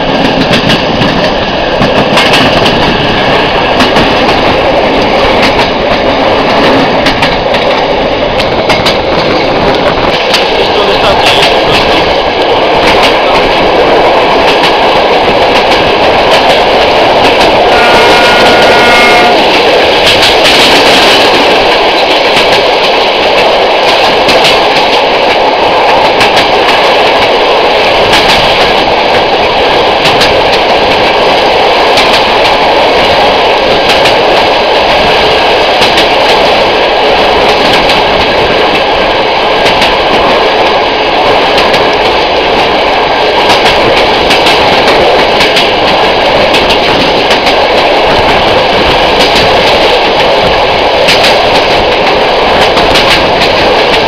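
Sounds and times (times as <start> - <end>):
wheels clicking over rail joints: 0.0 - 39.0, 39.6 - 54.0
diesel locomotive engine: 0.0 - 54.0
train rolling noise and wind: 0.0 - 54.0.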